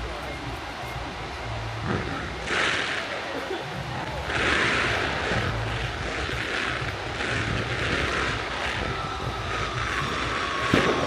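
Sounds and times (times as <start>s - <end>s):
engine drone with low throb: 0.0s - 11.0s.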